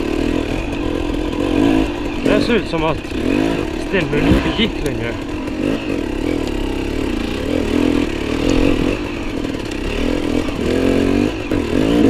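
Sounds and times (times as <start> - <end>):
dirt bike engine at low revs: 0.0 - 12.0.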